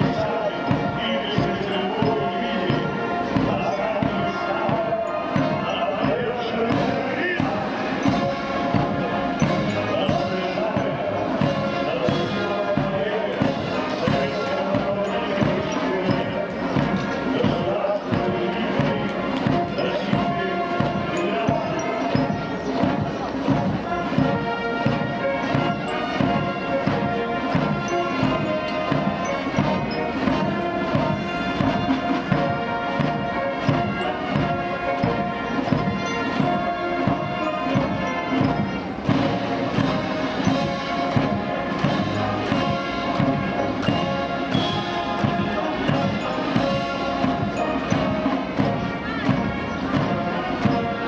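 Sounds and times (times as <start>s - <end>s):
military brass band march: 0.0s - 51.0s.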